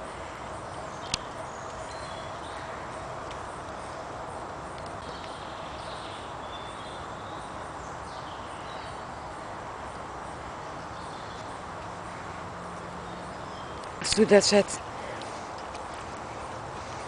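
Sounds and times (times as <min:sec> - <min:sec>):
distant songbirds chirping: 0:00.0 - 0:17.0
steady outdoor hiss: 0:00.0 - 0:17.0.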